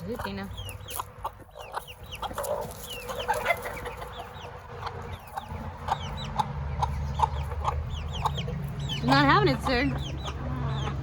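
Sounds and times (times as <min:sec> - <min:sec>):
chick peeping: 0:00.0 - 0:11.0
chickens clucking: 0:00.0 - 0:11.0.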